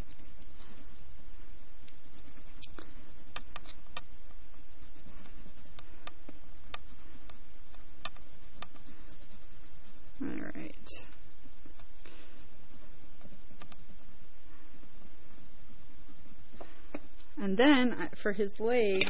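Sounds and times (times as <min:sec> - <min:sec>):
crayon rubbing on paper: 0:00.0 - 0:17.9.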